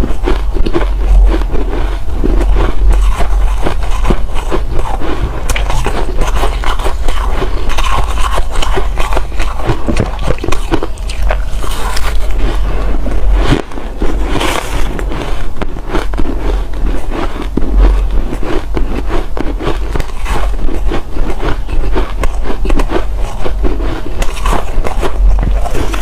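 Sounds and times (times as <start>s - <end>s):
ice cubes being chewed: 0.0s - 26.0s.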